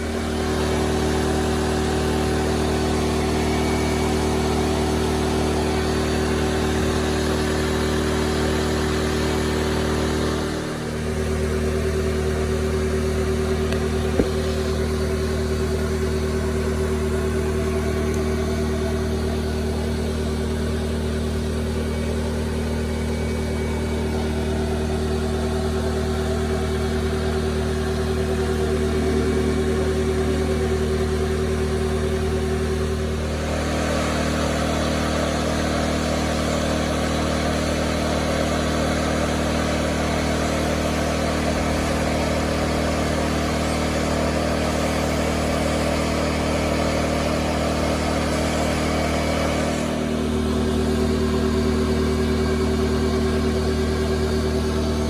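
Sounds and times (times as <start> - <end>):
small engine humming: 0.0 - 55.0.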